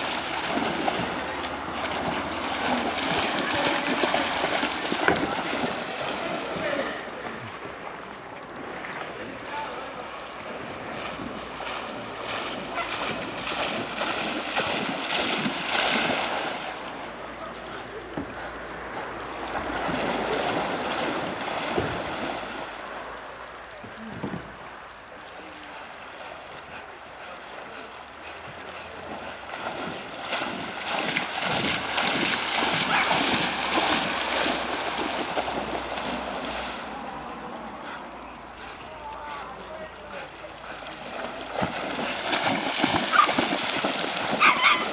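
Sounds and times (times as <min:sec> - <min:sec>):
dog swimming splashing water: 0:00.0 - 0:23.4, 0:25.2 - 0:44.9.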